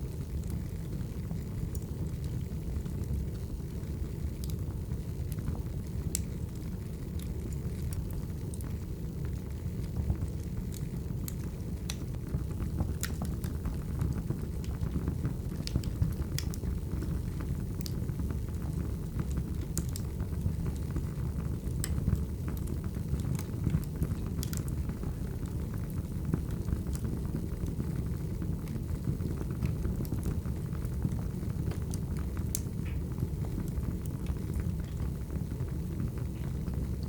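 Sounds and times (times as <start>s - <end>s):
logs crackling and popping: 0.0s - 37.0s
rumble of flames: 0.0s - 37.0s.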